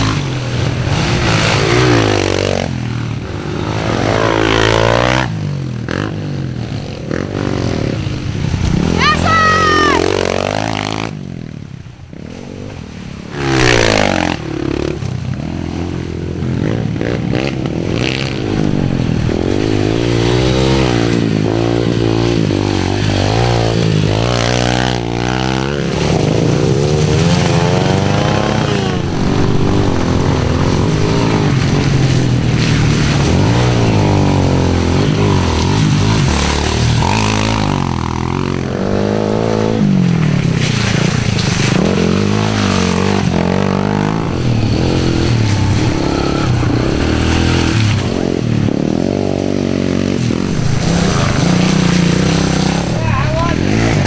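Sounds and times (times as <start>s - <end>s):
pit bike engines revving: 0.0s - 54.0s.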